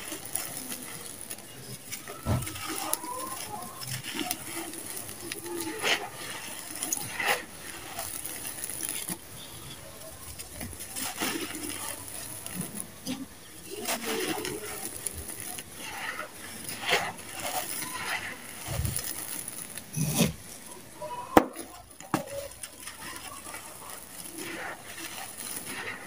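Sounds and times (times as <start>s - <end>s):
sand crunching and trickling: 0.0s - 26.0s
small stones clicking: 0.0s - 26.0s.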